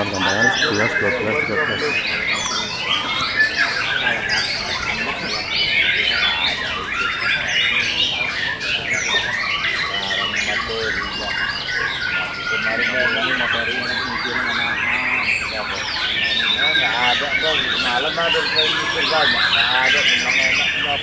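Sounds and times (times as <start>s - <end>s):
canaries singing: 0.0s - 21.0s.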